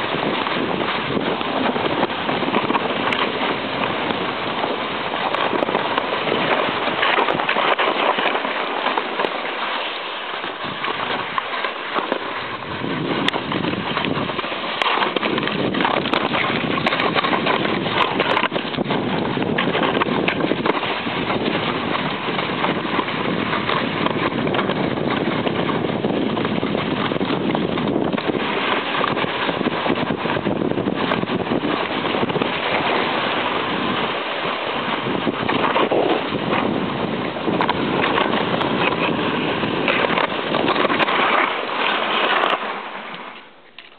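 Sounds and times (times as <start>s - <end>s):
wind rushing over microphone: 0.0s - 43.2s
sledge runners scraping on snow: 0.0s - 43.9s.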